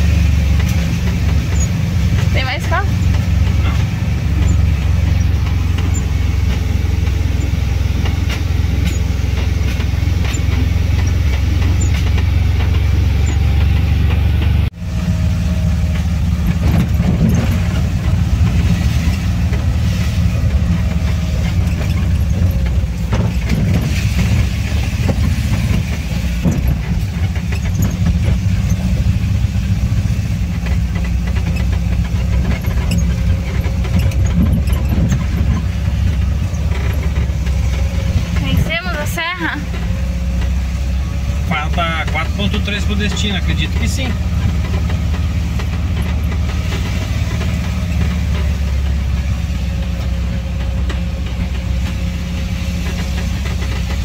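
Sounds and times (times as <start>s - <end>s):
engine droning: 0.0s - 54.0s
tyre noise on wet road: 0.0s - 54.0s.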